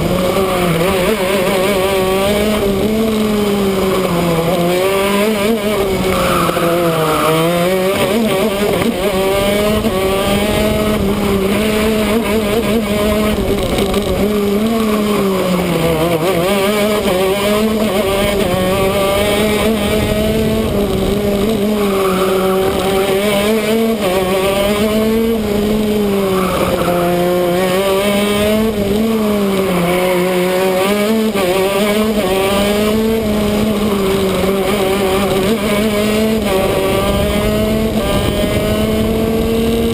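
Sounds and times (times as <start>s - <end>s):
kart two-stroke engine racing: 0.0s - 39.9s.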